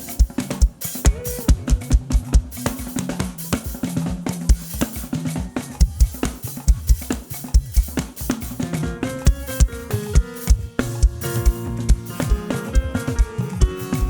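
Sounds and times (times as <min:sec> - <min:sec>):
drum kit beat: 0:00.0 - 0:14.0
live band playing: 0:00.0 - 0:14.0.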